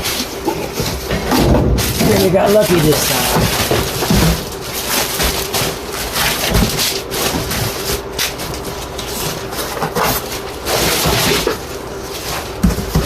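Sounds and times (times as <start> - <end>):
packaging rustling and scraping: 0.0 - 13.0.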